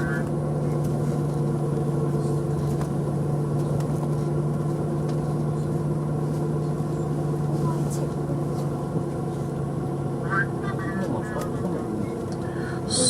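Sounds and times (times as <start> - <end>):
vehicle engine humming from cabin: 0.0 - 13.0.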